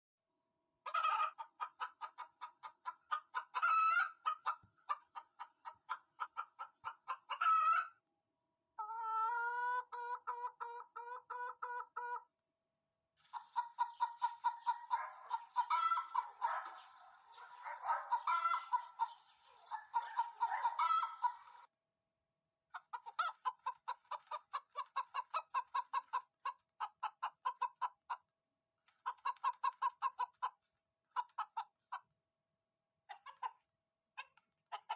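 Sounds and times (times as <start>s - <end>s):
hens clucking: 0.8s - 8.0s, 8.8s - 12.3s, 13.2s - 21.7s, 22.7s - 28.2s, 28.9s - 32.1s, 33.1s - 33.6s, 34.2s - 34.9s.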